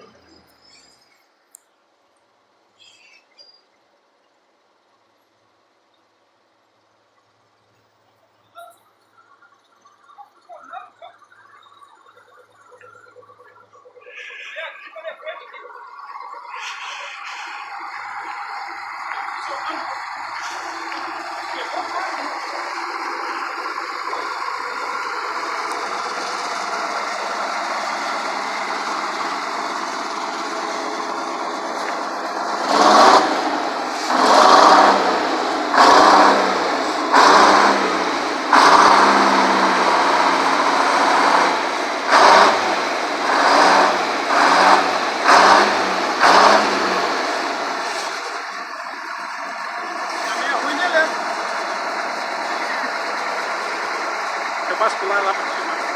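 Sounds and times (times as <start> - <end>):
diesel engine idling and revving: 0.0 - 55.9.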